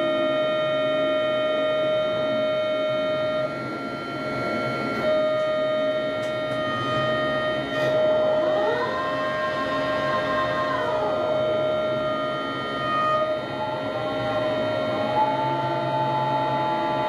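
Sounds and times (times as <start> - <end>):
crane machinery whining: 0.0 - 17.0
rising whine: 0.0 - 17.0.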